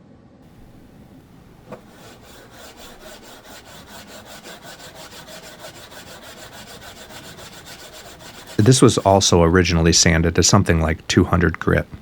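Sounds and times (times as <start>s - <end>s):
sanding wood: 0.5s - 10.4s.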